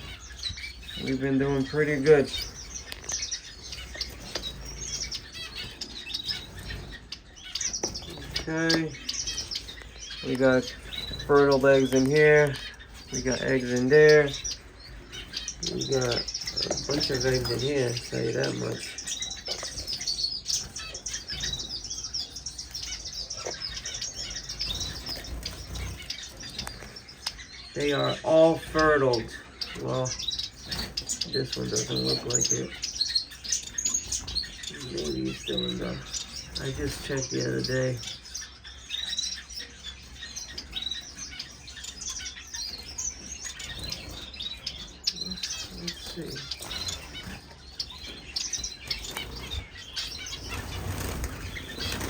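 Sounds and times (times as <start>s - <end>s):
finches chirping: 0.0s - 52.0s.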